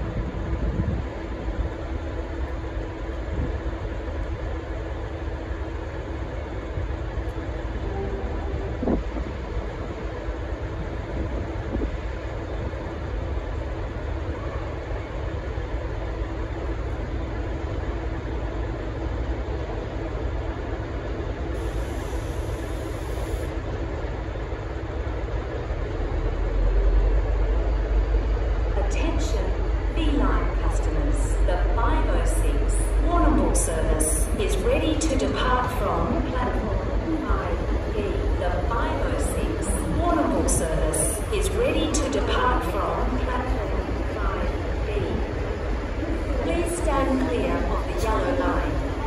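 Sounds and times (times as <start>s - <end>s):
diesel locomotive idling: 0.0s - 49.0s
faint hum: 0.0s - 49.0s.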